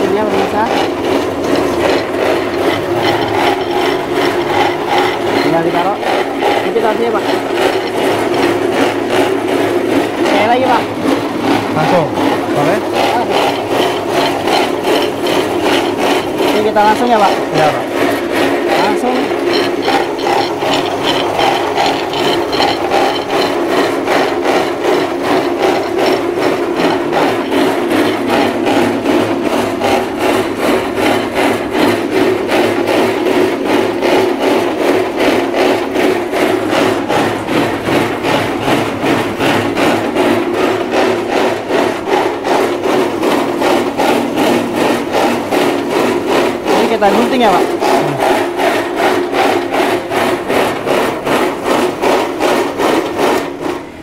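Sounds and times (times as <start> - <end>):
noodle machine running: 0.0 - 54.0.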